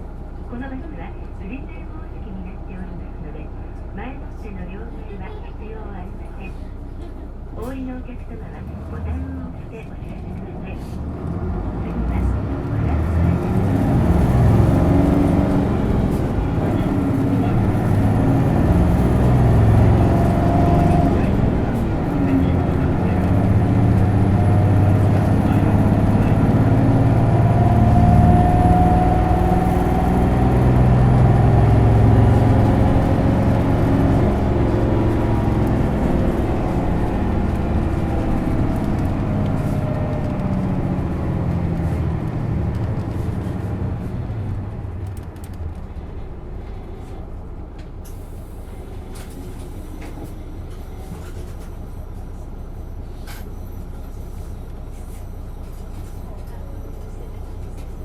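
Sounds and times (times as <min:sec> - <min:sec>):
bus diesel engine under throttle: 0:00.0 - 0:58.0.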